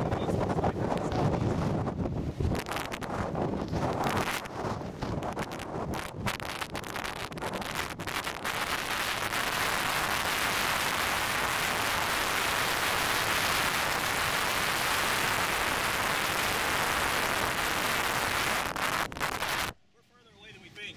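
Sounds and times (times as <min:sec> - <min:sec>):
wind buffeting microphone: 0:00.0 - 0:19.7.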